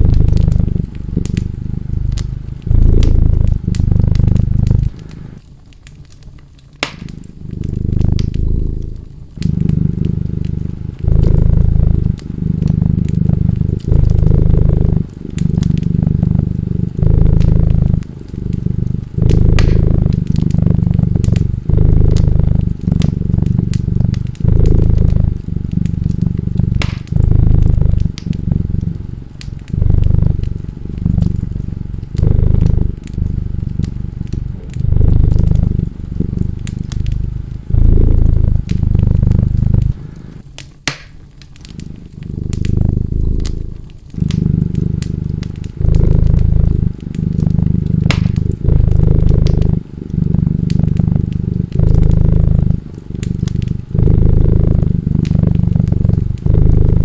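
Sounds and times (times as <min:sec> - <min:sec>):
wood fire crackling: 0:00.0 - 0:56.7
cat purring: 0:00.0 - 0:57.0.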